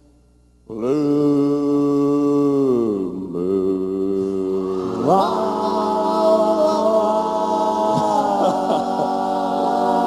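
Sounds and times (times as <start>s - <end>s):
a cappella group singing in harmony: 0.7s - 10.0s.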